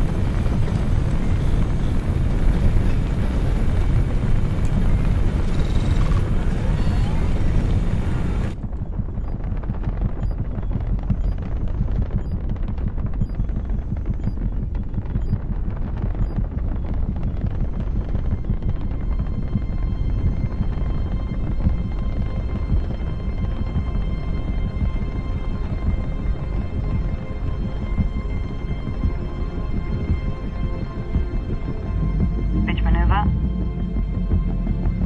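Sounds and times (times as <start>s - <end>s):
spacecraft engine rumble: 0.0s - 35.0s.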